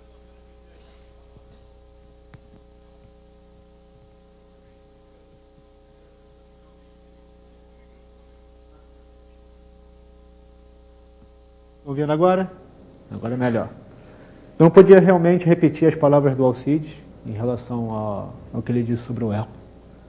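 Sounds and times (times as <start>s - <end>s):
electrical hum: 0.0s - 20.0s
faint hiss: 0.0s - 20.0s.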